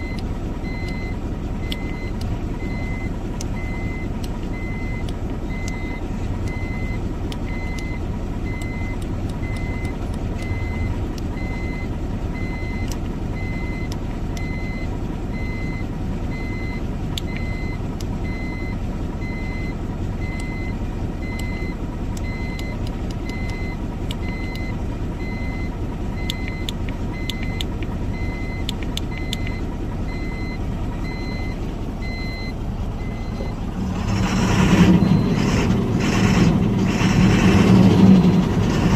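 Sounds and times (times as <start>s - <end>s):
electronic warning beep: 0.0s - 33.6s, 34.2s - 36.4s
diesel engine idling: 0.0s - 38.9s.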